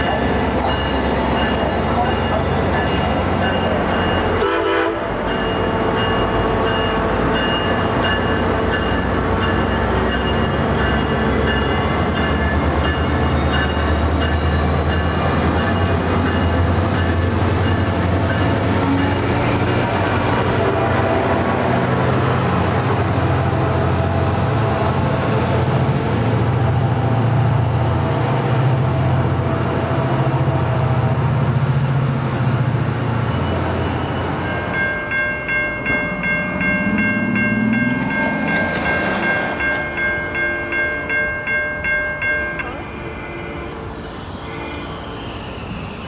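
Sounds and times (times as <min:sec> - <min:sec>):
diesel locomotive drone: 0:00.0 - 0:46.0.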